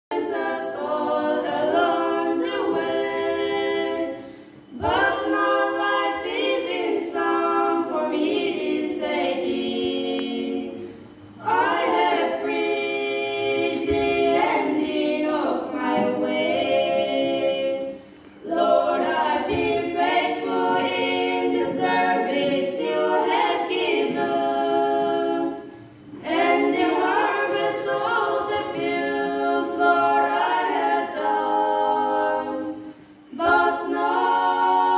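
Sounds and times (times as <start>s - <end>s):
girls singing a cappella: 0.1s - 34.9s.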